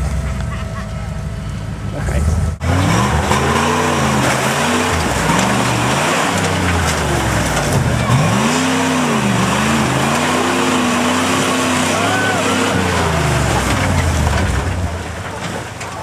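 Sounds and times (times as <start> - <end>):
engine revving: 1.8 - 15.2.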